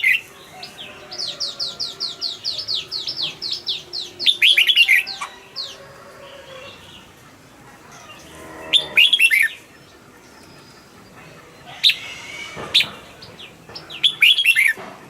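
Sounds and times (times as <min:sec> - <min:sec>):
bulbuls singing: 0:00.0 - 0:15.0.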